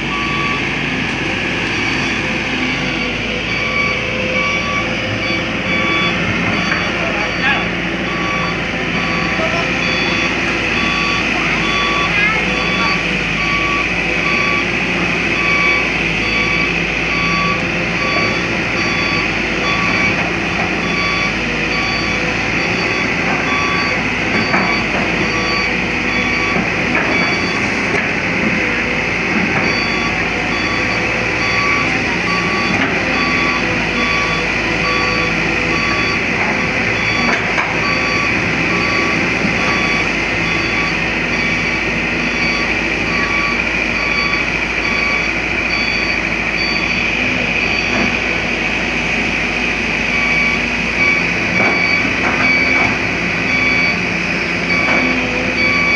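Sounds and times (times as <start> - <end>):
excavator diesel engine running: 0.0 - 55.9
travel alarm beeping: 0.0 - 55.9.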